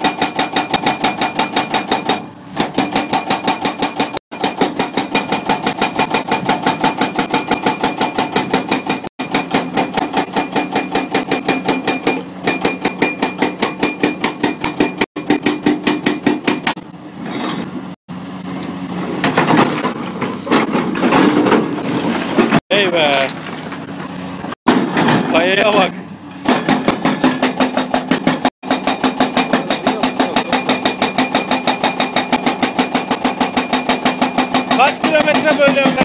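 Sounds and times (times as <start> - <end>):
hydraulic rock breaker hammering: 0.0 - 17.0, 19.0 - 36.0
rough irregular machine noise: 0.0 - 36.0.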